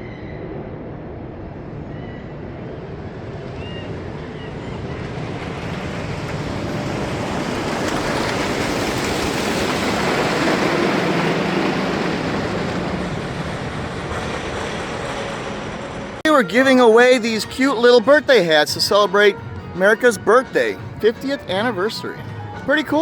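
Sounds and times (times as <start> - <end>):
roller coaster rumbling on track: 0.0 - 23.0.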